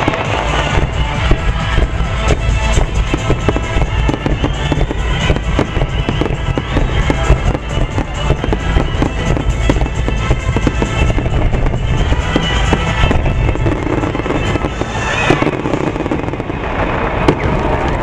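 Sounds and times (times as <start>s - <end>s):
fireworks bursting: 0.0s - 18.0s
low rumble: 0.0s - 18.0s
music: 0.0s - 18.0s.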